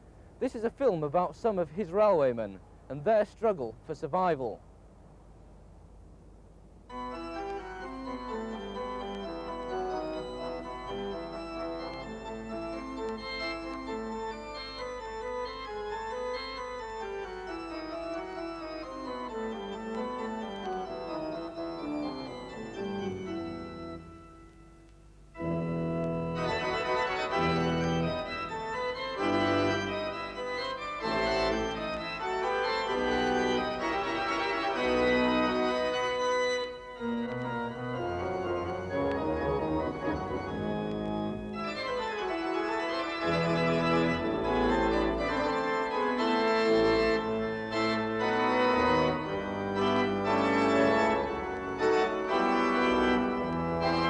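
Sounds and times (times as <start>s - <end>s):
organ music: 6.9s - 54.0s.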